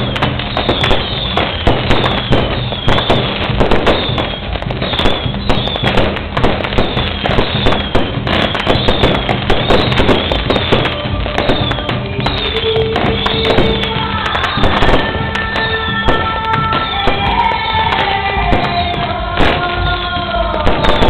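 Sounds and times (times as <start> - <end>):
firecrackers crackling: 0.0 - 21.0.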